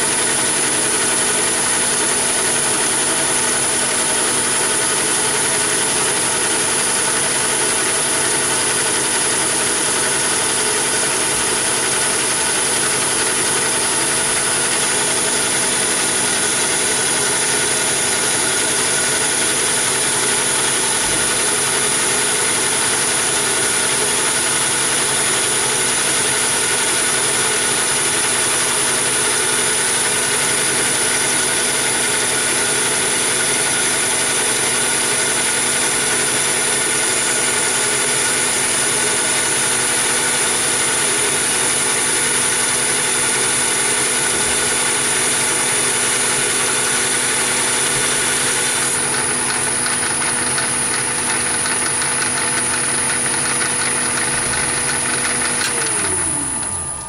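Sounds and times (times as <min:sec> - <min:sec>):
lathe running: 0:00.0 - 0:57.0.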